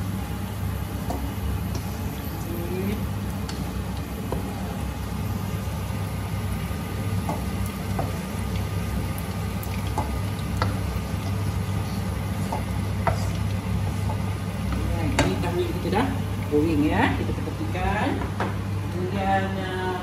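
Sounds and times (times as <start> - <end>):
tofu sizzling in hot oil: 0.0 - 17.4
low steady hum: 0.0 - 20.0.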